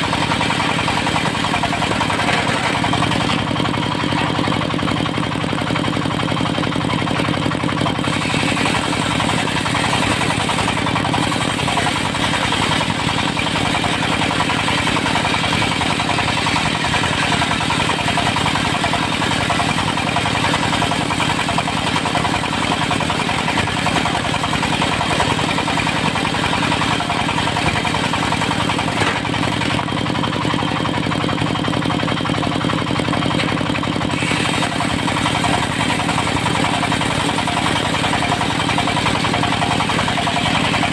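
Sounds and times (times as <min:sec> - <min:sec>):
circular sawmill motor running: 0:00.0 - 0:40.9.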